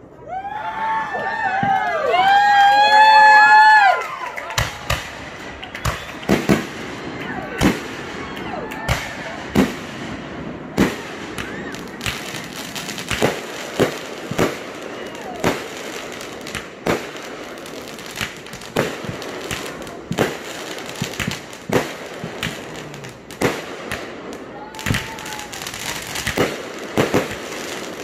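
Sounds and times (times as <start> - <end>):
fireworks bangs: 1.2 - 28.0.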